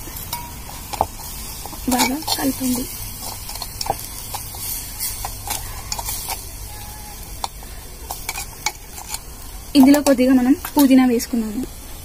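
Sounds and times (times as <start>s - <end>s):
spices sizzling in oil: 0.0s - 12.0s
spoon scraping clay pot: 0.2s - 10.2s.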